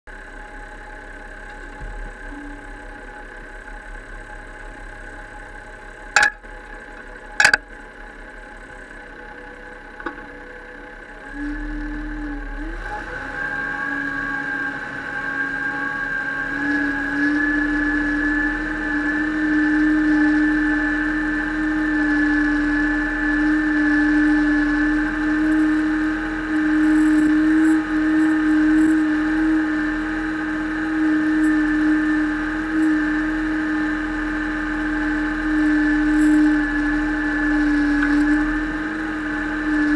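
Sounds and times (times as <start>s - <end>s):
tractor diesel engine: 0.1s - 39.9s.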